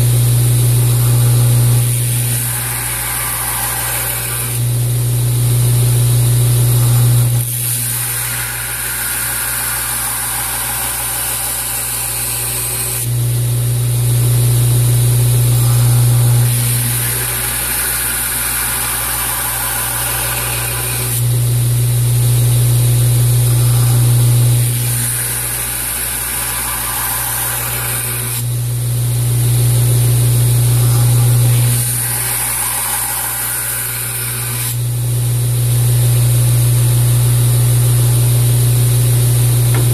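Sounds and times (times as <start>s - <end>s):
belt grinder motor humming: 0.0s - 39.9s.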